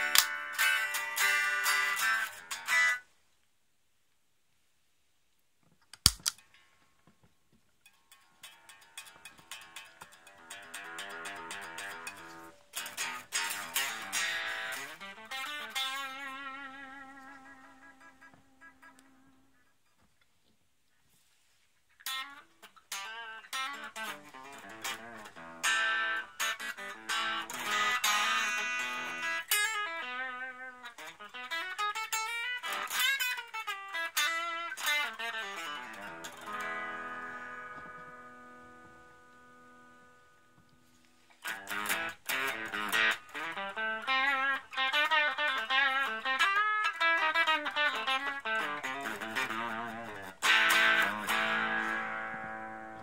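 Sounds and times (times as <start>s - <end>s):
electric guitar notes and chords: 0.0s - 3.0s, 8.4s - 19.5s, 22.0s - 40.8s, 41.4s - 53.0s.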